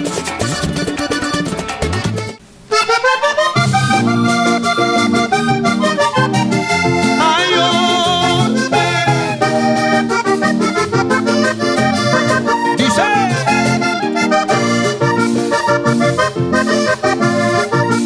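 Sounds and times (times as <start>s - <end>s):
electric bass: 0.0s - 2.4s, 3.5s - 18.0s
button accordion playing: 0.0s - 18.0s.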